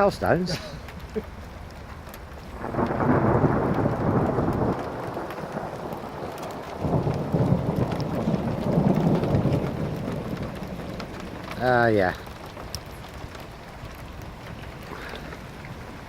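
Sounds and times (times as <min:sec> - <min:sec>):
hail and rain pattering: 0:00.0 - 0:16.0
thunder rumbling: 0:01.0 - 0:16.0.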